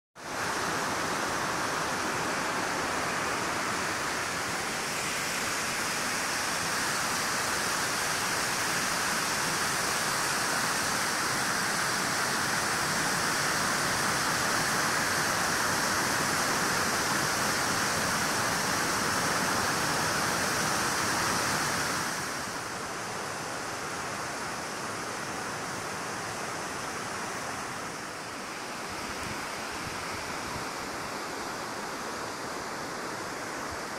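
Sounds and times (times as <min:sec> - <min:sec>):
floodwater rushing over weir: 0:00.2 - 0:33.9.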